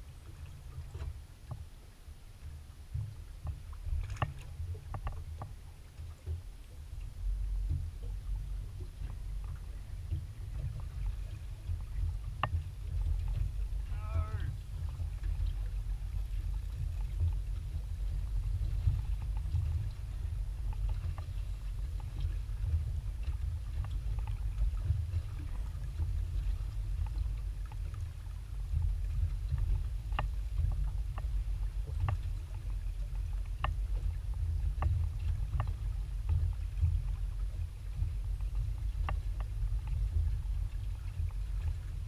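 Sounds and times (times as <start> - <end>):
water lapping against boat hull: 0.0 - 42.0
wind on microphone: 0.0 - 42.0.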